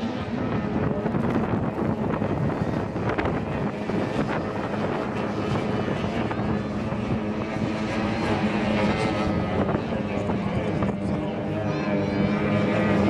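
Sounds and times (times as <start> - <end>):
powerboat engines droning: 0.0 - 13.0
wind buffeting microphone: 0.0 - 13.0.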